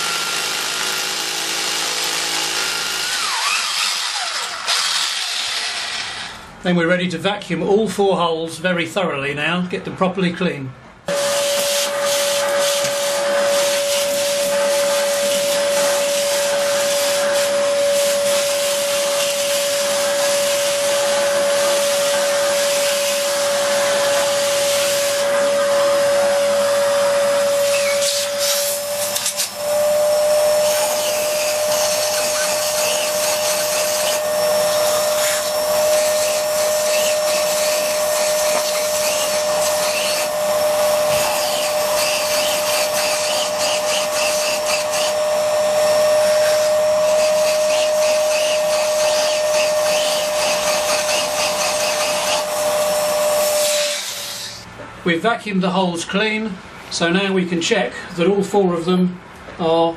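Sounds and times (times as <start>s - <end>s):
vacuum cleaner running: 0.0s - 6.6s, 11.0s - 54.9s.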